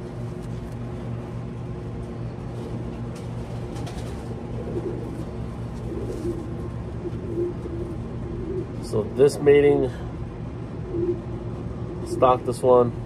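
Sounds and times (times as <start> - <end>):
low hum: 0.0 - 13.0
pigeons cooing: 0.9 - 12.6.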